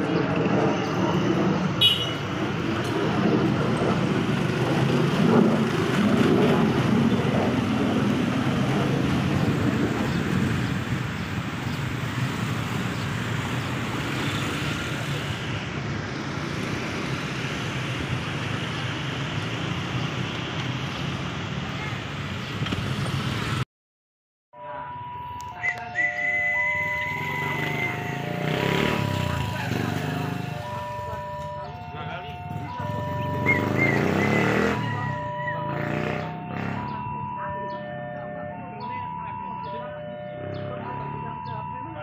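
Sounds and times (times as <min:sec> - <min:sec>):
locomotive engine rumbling: 0:00.0 - 0:22.4, 0:24.9 - 0:42.0.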